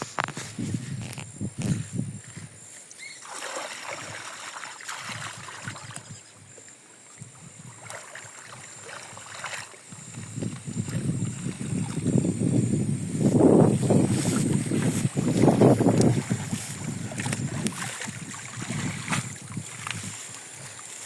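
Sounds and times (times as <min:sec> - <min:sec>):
wind rumble on microphone: 0:00.0 - 0:02.6, 0:05.0 - 0:20.9
river water splashing: 0:02.7 - 0:21.0.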